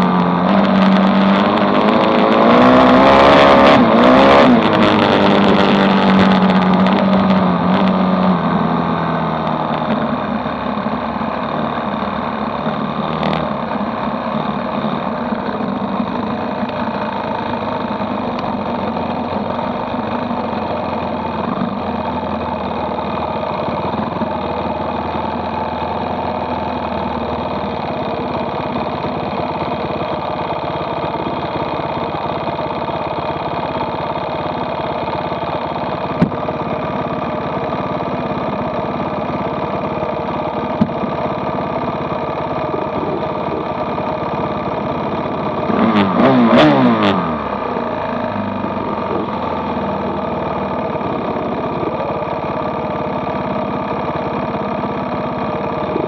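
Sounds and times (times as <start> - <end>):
dirt bike engine idling: 0.0 - 56.0.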